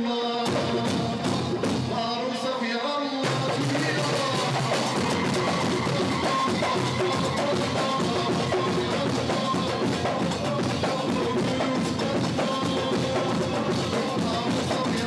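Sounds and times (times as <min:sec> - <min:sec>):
driving drum beat: 0:00.4 - 0:02.2, 0:03.2 - 0:15.0.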